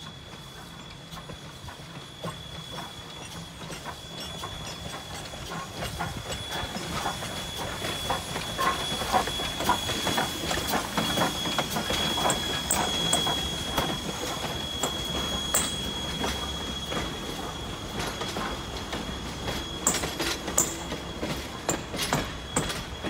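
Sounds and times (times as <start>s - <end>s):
low train rumble: 0.0s - 23.0s
steam hissing: 0.0s - 23.0s
train wheels clicking over rail joints: 0.0s - 23.0s.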